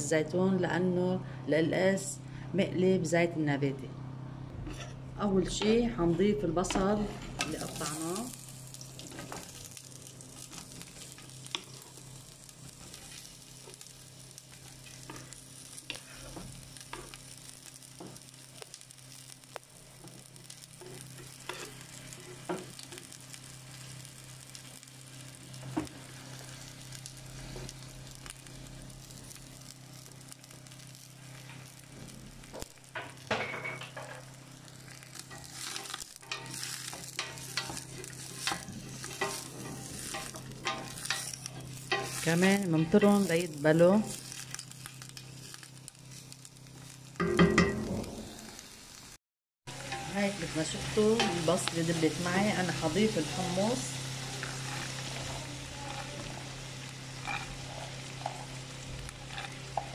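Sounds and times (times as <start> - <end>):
onions sizzling in oil: 6.4 - 59.9.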